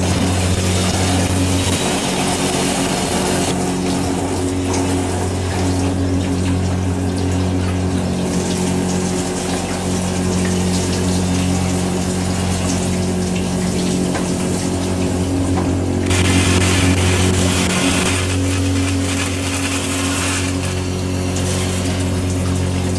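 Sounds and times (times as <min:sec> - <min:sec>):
dishwasher motor humming: 0:00.0 - 0:22.9
water spraying and splashing: 0:00.0 - 0:22.9.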